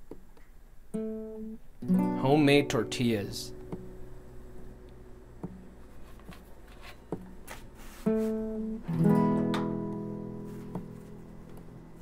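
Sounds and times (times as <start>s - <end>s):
acoustic guitar plucked and strummed: 0.9s - 12.0s.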